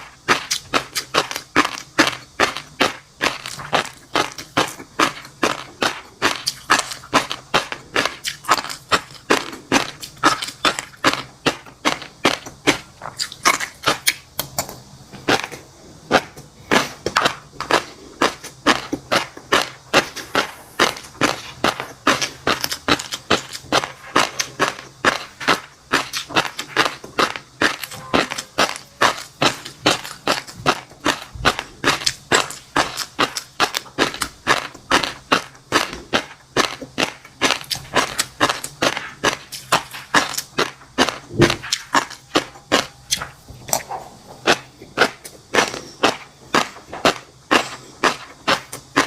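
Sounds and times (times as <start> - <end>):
crunchy eating: 0.0 - 49.0.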